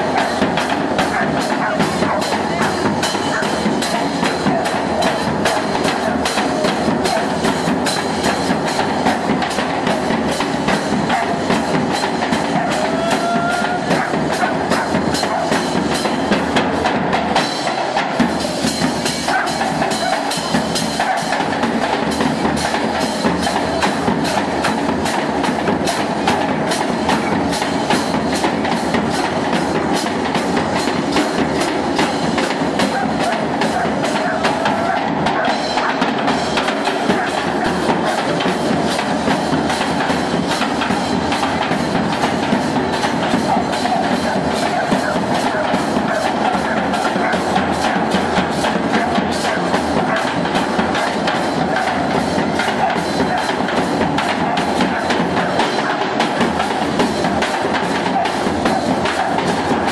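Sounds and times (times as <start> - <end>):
bass drums beating: 0.0 - 59.9
cymbals clashing: 0.0 - 59.9.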